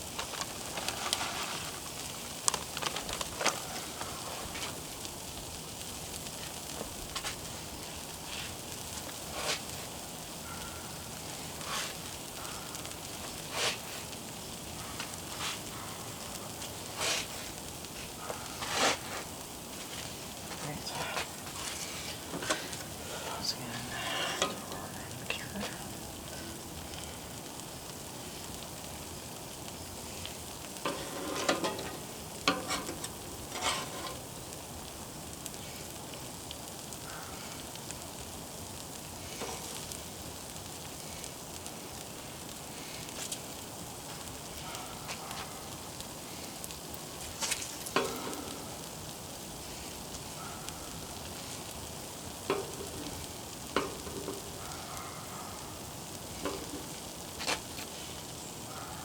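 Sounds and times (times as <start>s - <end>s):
bread sizzling on griddle: 0.0s - 59.0s.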